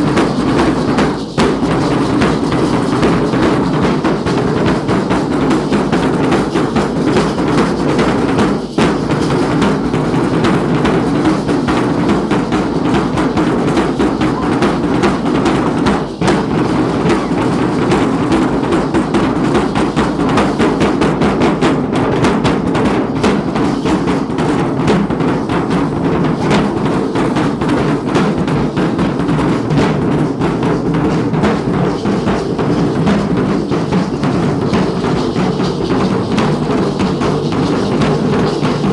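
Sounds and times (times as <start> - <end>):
drums beating fast rhythm: 0.0 - 38.9.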